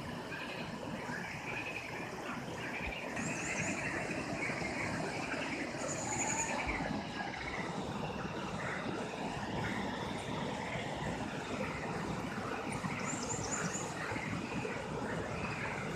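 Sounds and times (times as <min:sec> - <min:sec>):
steady background noise: 0:00.0 - 0:15.9
birds chirping: 0:00.2 - 0:15.9.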